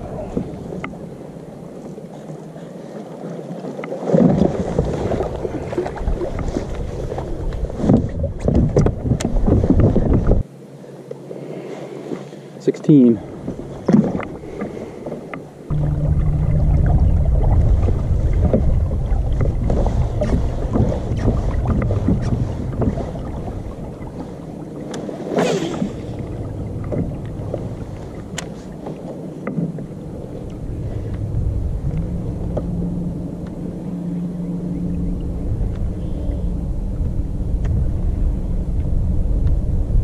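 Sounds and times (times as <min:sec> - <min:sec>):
kayak low rumble and hum: 0:00.0 - 0:40.0.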